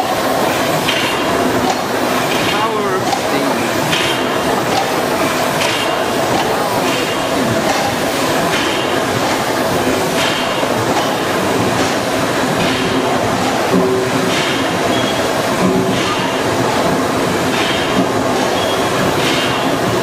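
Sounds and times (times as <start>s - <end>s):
mill engine mechanical clatter: 0.0s - 20.0s.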